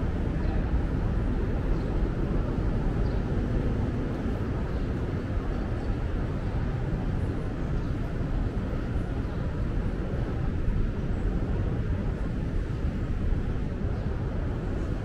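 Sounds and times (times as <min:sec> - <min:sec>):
city ambience rumble: 0:00.0 - 0:15.0.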